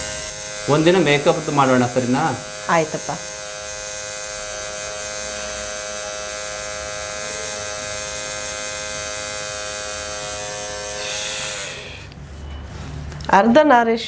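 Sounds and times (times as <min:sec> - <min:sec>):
tattoo machine buzzing: 0:00.0 - 0:12.2.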